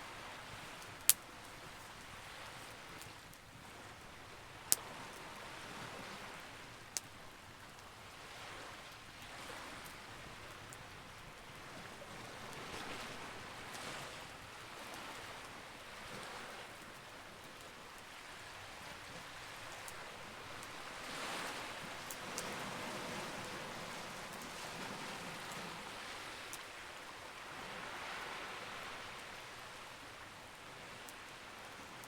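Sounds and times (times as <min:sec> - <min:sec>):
campfire crackling: 0:00.0 - 0:32.0.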